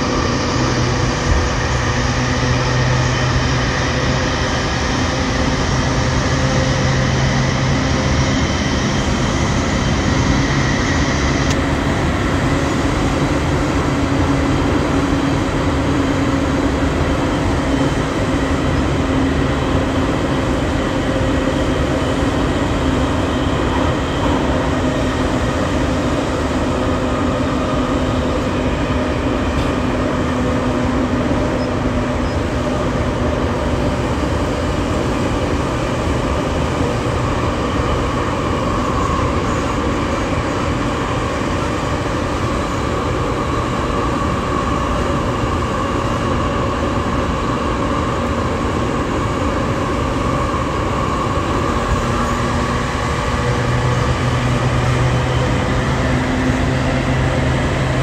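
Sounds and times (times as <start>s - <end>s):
high whine: 0.0s - 58.0s
train wheels rumbling on track: 0.0s - 58.0s.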